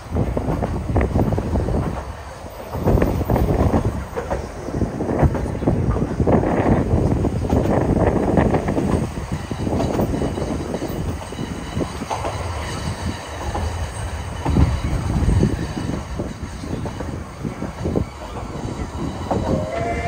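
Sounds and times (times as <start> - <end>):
train wheels clattering: 0.0 - 20.0
train wheels rumbling: 0.0 - 20.0.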